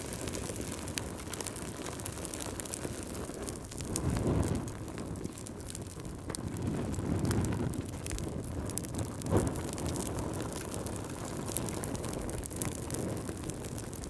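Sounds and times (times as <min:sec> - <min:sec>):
fire crackles and pops: 0:00.0 - 0:14.0
wood fire burning: 0:00.0 - 0:14.0.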